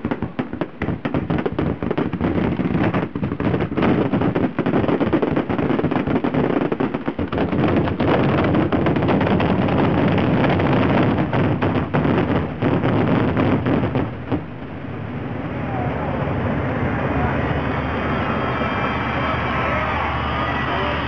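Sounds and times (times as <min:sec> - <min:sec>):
fireworks popping and crackling: 0:00.0 - 0:14.8, 0:17.1 - 0:21.0
steady rushing noise: 0:00.7 - 0:21.0.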